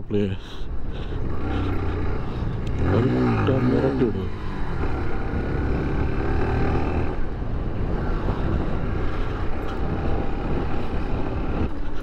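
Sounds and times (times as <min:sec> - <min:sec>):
road noise: 0:00.0 - 0:12.0
wind: 0:00.0 - 0:12.0.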